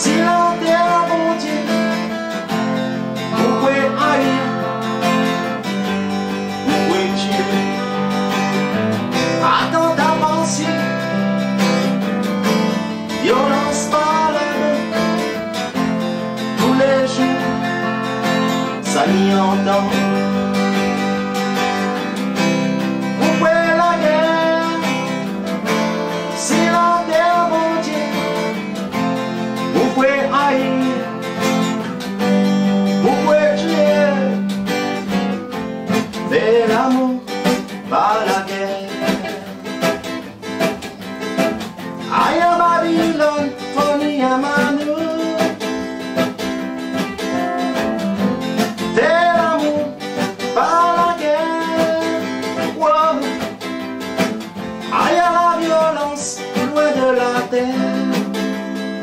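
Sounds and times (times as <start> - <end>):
man singing: 0.0 - 40.2, 42.0 - 59.0
guitars strummed and picked: 0.0 - 59.0.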